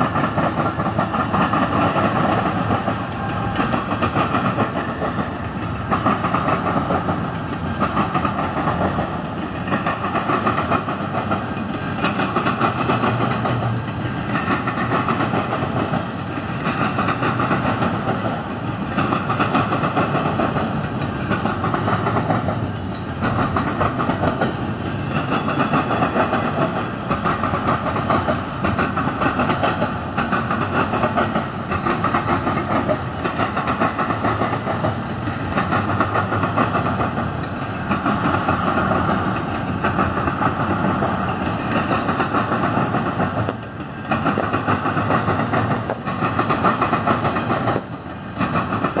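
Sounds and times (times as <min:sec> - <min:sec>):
train wheels clattering on rails: 0:00.0 - 0:49.0.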